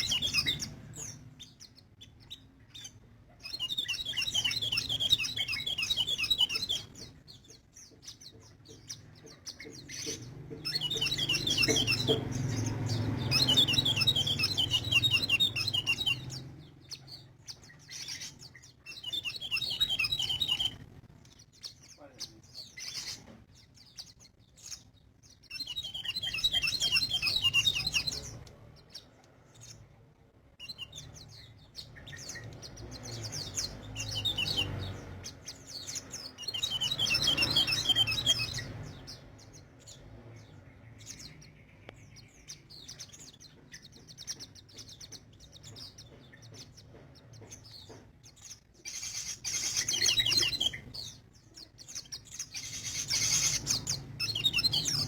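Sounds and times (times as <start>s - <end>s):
bird trilling song: 0.0s - 55.0s.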